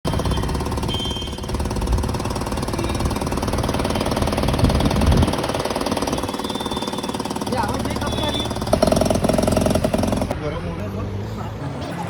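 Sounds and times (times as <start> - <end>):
car engine rattling clatter: 0.1 - 10.4.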